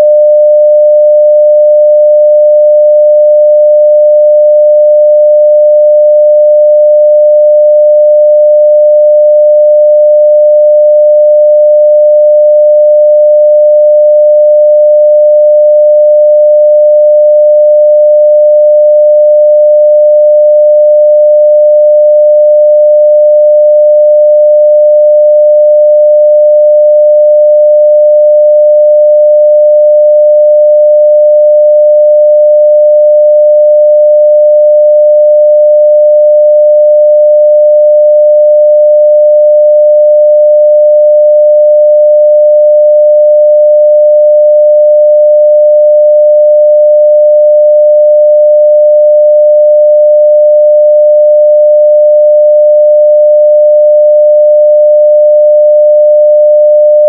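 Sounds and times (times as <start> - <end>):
sine wave test tone: 0.0 - 57.0.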